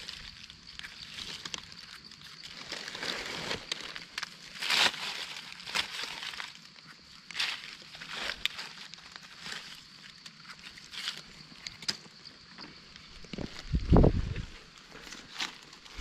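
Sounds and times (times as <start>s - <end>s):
rustling in leaf litter: 0.0s - 11.4s, 13.4s - 16.0s.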